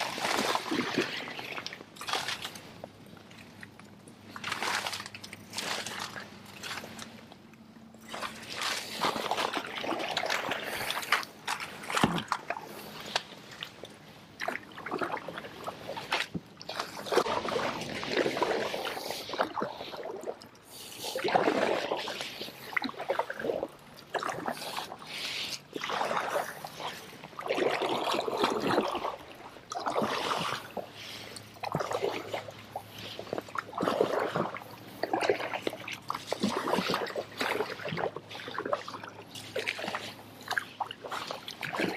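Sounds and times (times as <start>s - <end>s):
paddle splashing water: 0.0s - 41.9s
water trickling off paddle: 0.0s - 41.9s.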